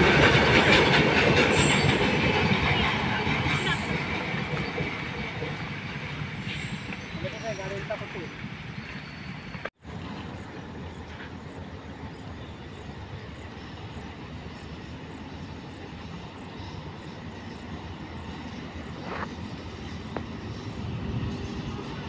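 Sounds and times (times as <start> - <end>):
distant locomotive rumble: 0.0 - 22.0.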